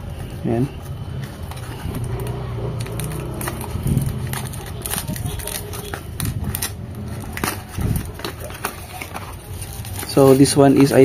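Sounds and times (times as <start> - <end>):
cardboard clicks and crackles: 0.0 - 11.0
blade slitting packing tape: 1.4 - 11.0.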